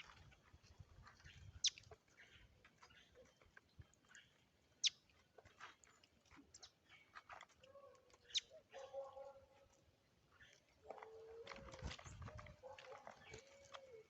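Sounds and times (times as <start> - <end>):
birds chirping: 1.1 - 9.4, 10.0 - 14.0.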